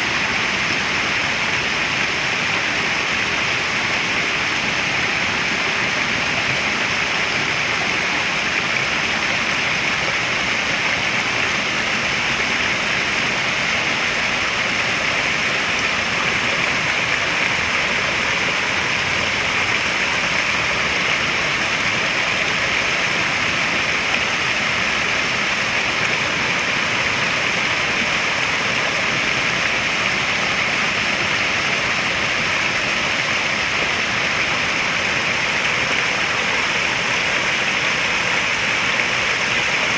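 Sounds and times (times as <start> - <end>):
splashing water rushing: 0.0 - 39.9.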